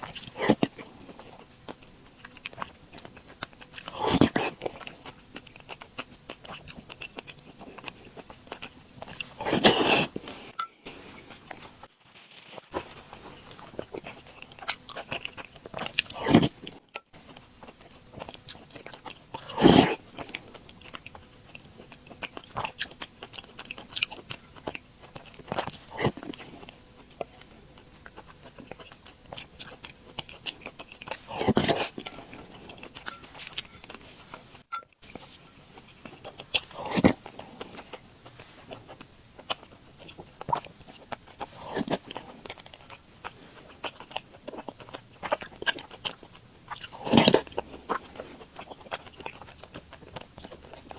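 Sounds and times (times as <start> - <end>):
close-miked chewing: 0.0 - 50.9.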